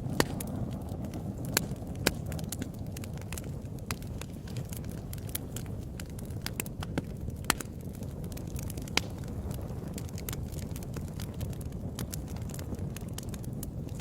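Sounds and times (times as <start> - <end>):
sharp pops of burning wood: 0.0 - 14.0
wood fire crackling: 0.0 - 14.0.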